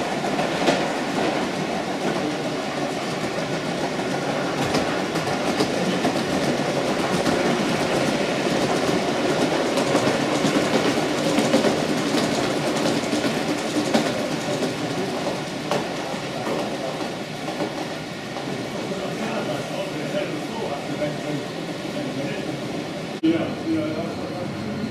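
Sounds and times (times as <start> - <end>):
model train rumbling on track: 0.0 - 24.9.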